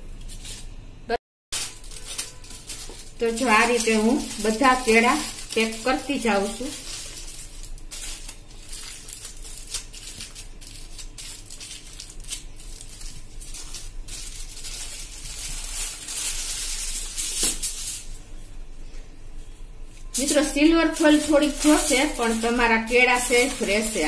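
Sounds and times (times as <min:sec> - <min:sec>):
aluminium foil crinkling: 0:00.0 - 0:00.8, 0:01.5 - 0:18.2, 0:20.0 - 0:24.0.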